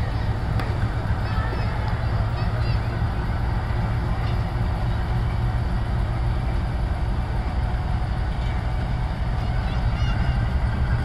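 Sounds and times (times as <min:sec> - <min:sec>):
diesel locomotive engine chugging: 0:00.0 - 0:11.0.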